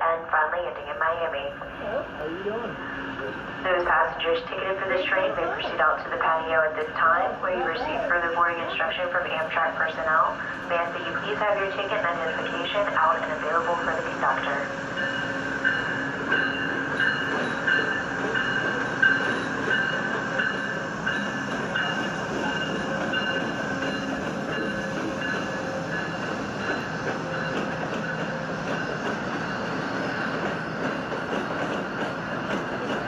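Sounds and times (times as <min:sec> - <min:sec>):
passenger train running: 0:00.0 - 0:33.0.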